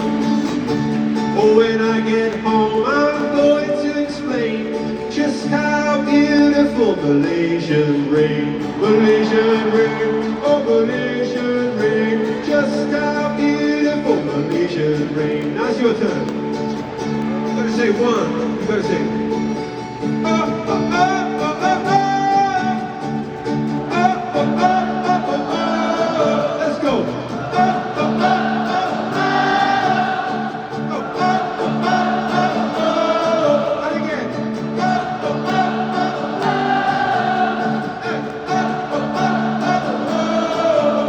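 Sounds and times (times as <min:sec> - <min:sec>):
crowd singing: 0:00.0 - 0:41.0
strummed guitar chords: 0:00.0 - 0:41.0.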